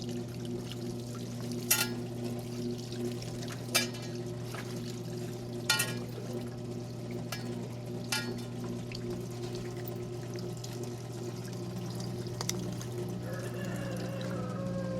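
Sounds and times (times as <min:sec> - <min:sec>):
water splashing in tub: 0:00.0 - 0:14.7
washing machine motor hum: 0:00.0 - 0:14.9.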